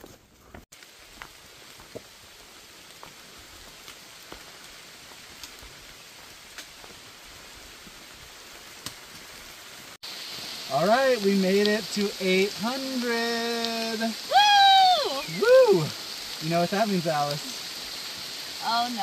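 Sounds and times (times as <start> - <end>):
rain falling on foliage: 0.7 - 19.0.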